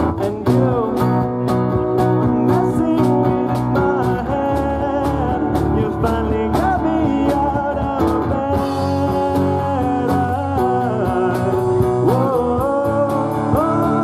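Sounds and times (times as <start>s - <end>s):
lead guitar line bending: 0.0s - 14.0s
live rock band playing: 0.0s - 14.0s.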